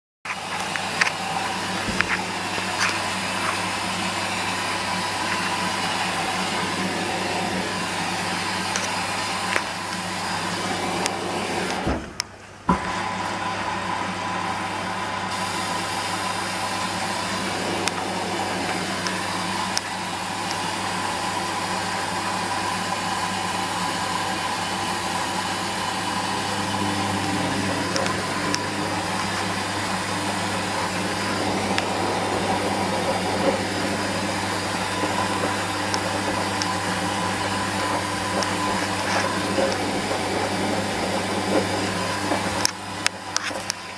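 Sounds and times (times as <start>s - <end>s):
washing machine motor hum: 0.3s - 43.9s.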